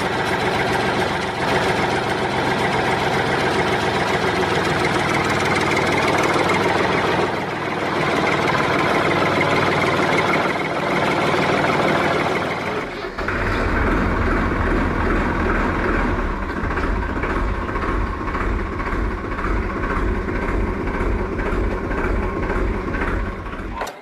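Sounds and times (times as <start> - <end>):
deep rhythmic rumble: 0.0 - 23.8.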